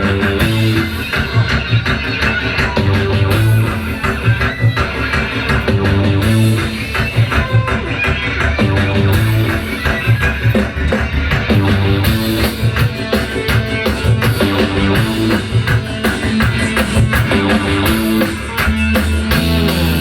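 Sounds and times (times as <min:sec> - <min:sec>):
bass guitar: 0:00.0 - 0:20.0
guitar: 0:00.0 - 0:20.0
live band playing: 0:00.0 - 0:20.0
steady drum beat: 0:00.0 - 0:20.0.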